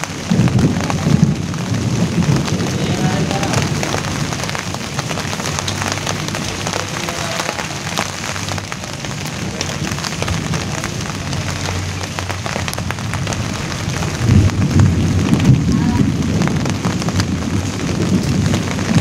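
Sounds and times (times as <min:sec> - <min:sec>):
low rumble: 0:00.0 - 0:19.0
rain falling on a leaf: 0:00.0 - 0:19.0.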